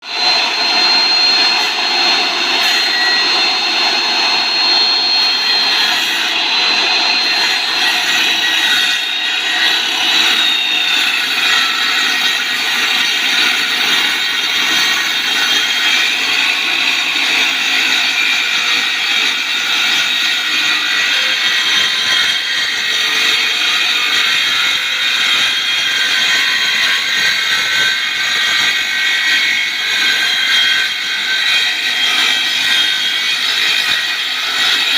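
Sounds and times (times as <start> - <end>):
circular saw cutting wood: 0.0 - 34.9.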